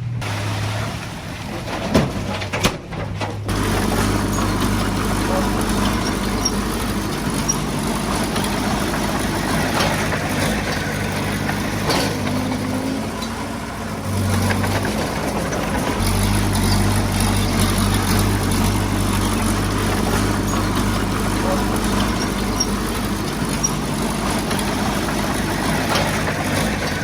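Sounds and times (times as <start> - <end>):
diesel engine running: 0.0 - 27.0
metal clanks: 1.4 - 27.0.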